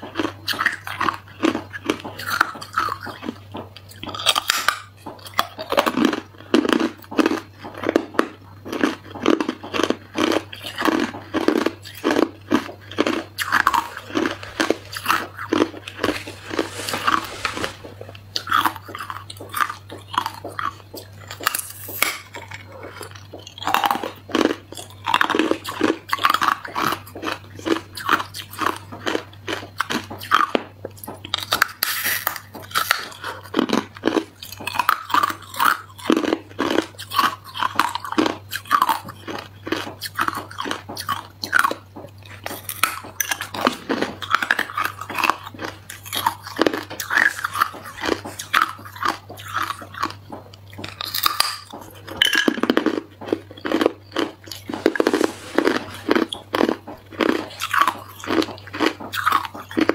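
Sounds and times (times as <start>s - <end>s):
ice crunching being chewed: 0.0s - 59.9s
low steady hum: 0.0s - 59.9s.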